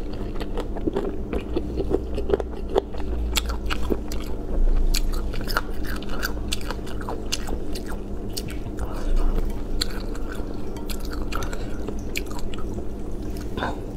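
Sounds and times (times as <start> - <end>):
person chewing crunchy food: 0.0 - 13.9
steady low hum: 0.0 - 13.9.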